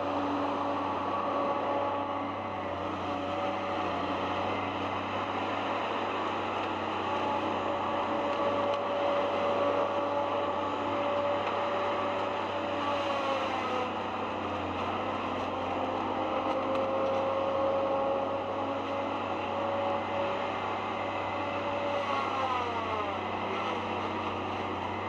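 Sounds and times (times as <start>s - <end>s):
forestry machine diesel engine: 0.0s - 25.0s
hydraulic whine: 0.0s - 25.0s.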